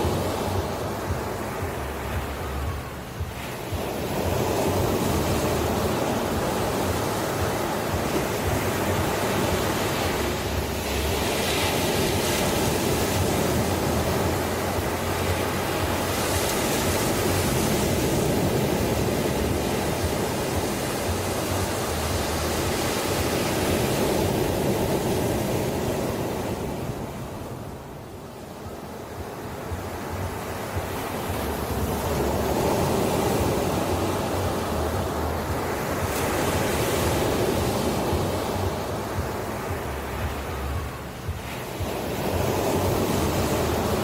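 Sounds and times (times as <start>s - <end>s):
ocean waves washing ashore: 0.0s - 44.0s.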